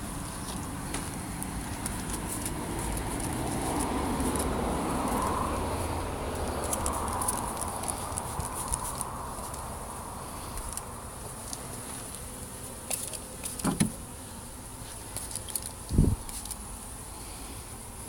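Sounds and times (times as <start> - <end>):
bee swarm buzzing: 0.0 - 18.0.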